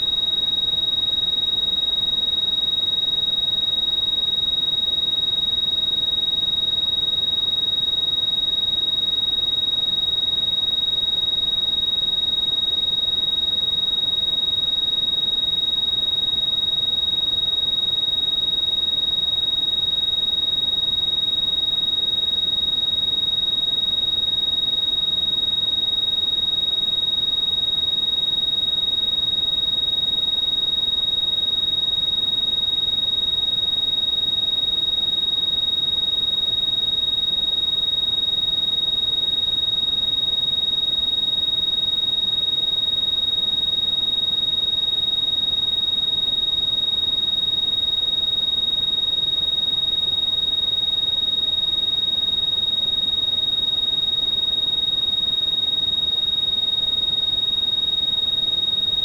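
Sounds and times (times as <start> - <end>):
high-pitched sine tone: 0.0 - 59.0.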